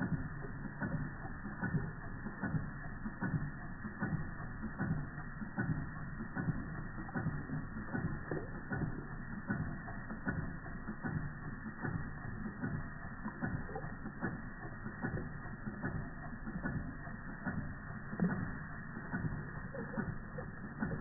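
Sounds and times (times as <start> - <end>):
toy steam engine clicking: 0.4 - 21.0.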